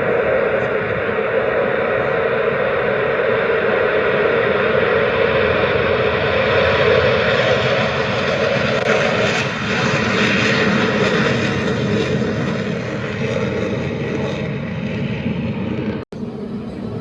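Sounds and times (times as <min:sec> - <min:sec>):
jet engine flying past: 0:00.0 - 0:17.0.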